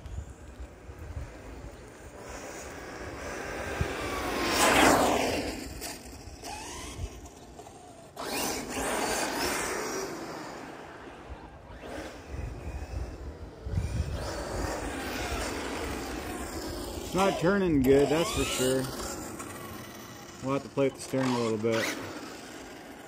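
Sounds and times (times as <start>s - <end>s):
rc car motor whining: 0.0s - 23.0s.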